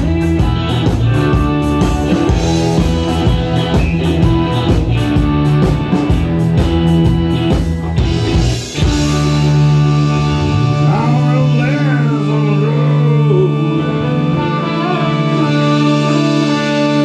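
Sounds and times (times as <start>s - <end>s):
electric guitars and bass chord: 0.0s - 17.0s
lead guitar string bends: 0.0s - 17.0s.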